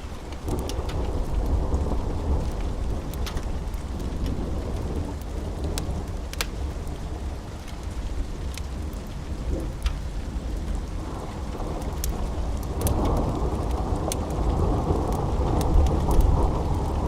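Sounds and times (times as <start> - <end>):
steady rain: 0.0 - 17.0
thunder rumbling: 0.0 - 17.0
wood fire crackling: 0.0 - 17.0.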